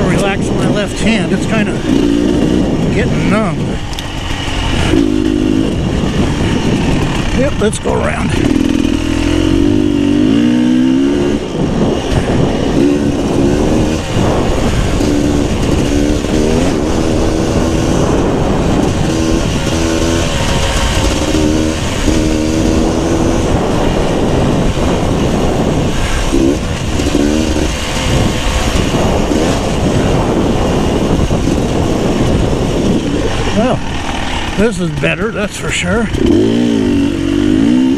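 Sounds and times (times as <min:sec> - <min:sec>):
dirt bike engine revving: 0:00.0 - 0:37.9
steady rush of noise: 0:00.0 - 0:37.9.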